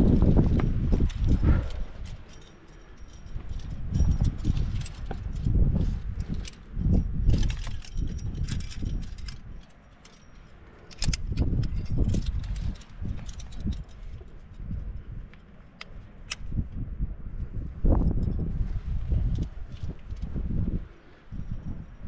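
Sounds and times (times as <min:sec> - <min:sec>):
climbing gear clinking: 0:00.0 - 0:16.8, 0:17.9 - 0:22.0.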